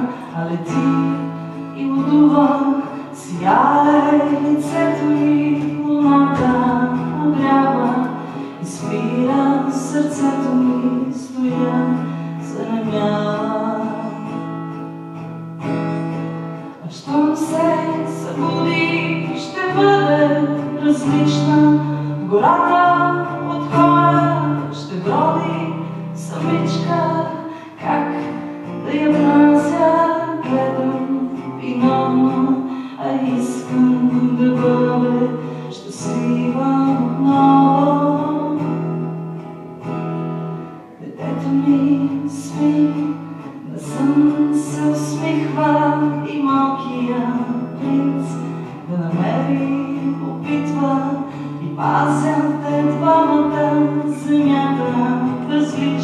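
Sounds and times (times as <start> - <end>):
acoustic guitar strumming: 0.0 - 56.0
woman singing: 0.0 - 56.0.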